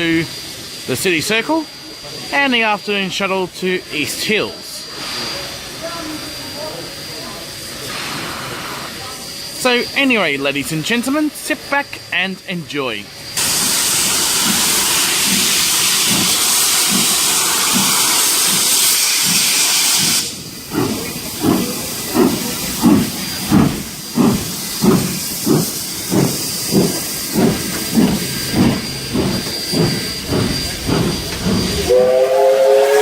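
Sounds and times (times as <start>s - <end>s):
steam hissing: 0.0s - 12.1s, 13.1s - 33.0s
steam locomotive chuffing: 0.0s - 12.1s, 13.0s - 33.0s.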